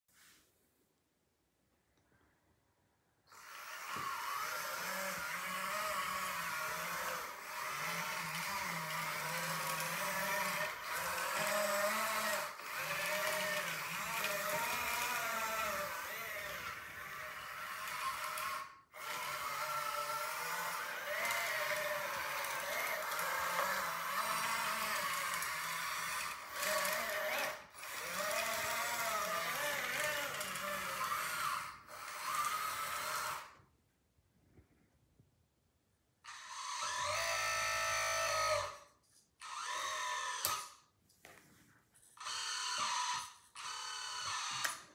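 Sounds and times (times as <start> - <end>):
electric motor and pump whine: 3.3 - 33.6, 36.3 - 40.8, 42.1 - 44.9.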